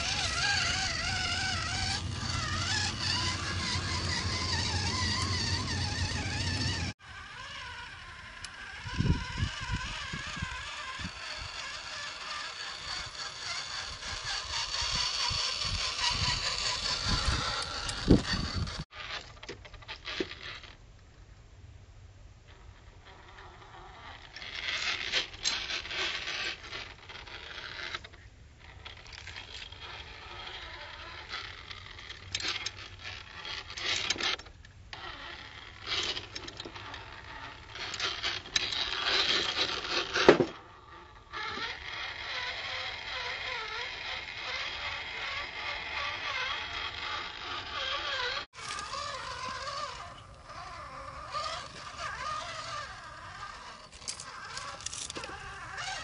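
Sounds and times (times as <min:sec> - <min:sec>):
toy truck electric motor whining: 0:00.0 - 0:20.8, 0:22.5 - 0:56.0.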